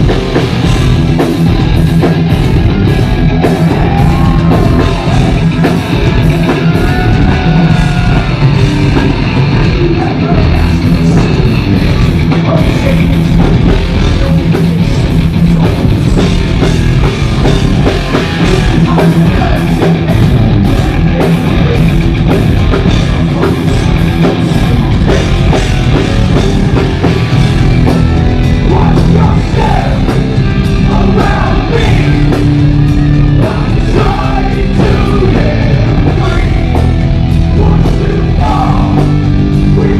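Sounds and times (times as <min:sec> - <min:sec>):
heavy metal band playing: 0:00.0 - 0:39.9.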